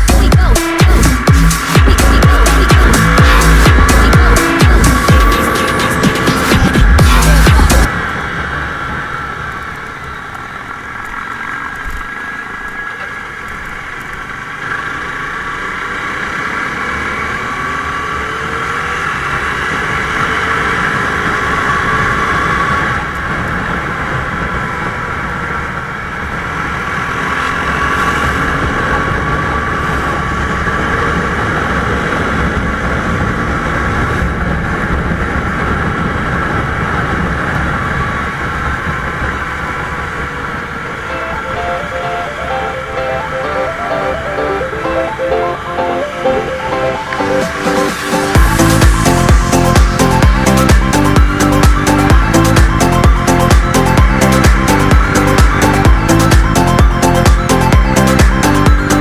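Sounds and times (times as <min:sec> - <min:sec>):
motorcycle engine running: 0:00.0 - 0:41.1, 0:47.5 - 0:59.0
wind and road noise: 0:00.0 - 0:59.0.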